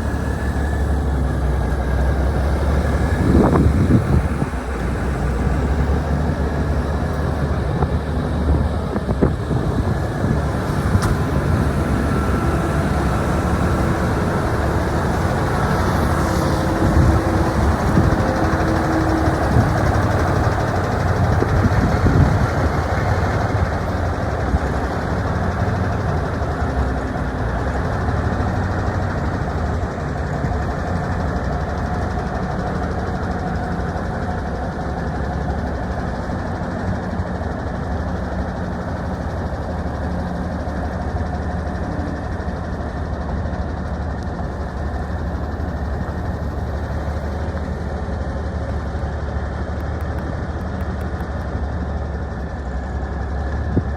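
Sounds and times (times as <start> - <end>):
truck diesel engine idling: 0.0 - 53.9.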